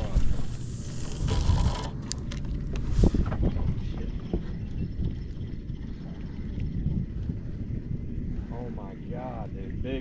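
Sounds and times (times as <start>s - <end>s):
steady low rumble: 0.0s - 10.0s
wind buffeting microphone: 0.0s - 10.0s.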